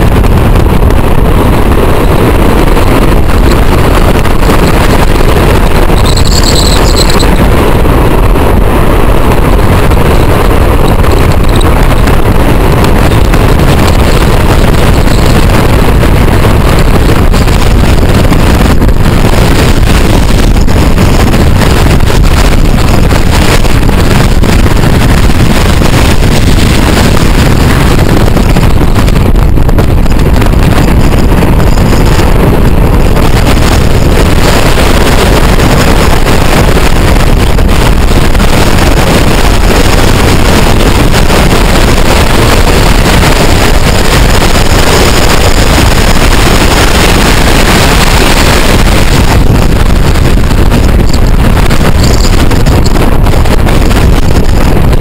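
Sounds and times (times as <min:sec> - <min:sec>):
tyre and engine noise: 0:00.0 - 0:55.0
wind buffeting microphone: 0:00.0 - 0:55.0.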